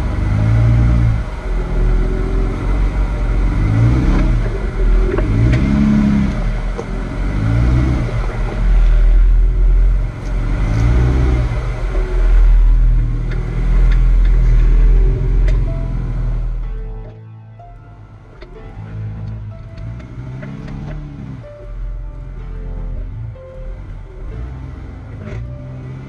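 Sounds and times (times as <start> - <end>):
engine revving: 0.0 - 17.2, 18.2 - 26.0
low rumble: 0.0 - 26.0.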